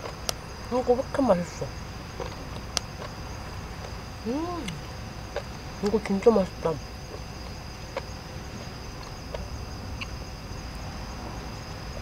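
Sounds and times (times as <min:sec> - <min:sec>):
crickets chirping: 0:00.0 - 0:12.0
low steady rumble: 0:00.0 - 0:12.0.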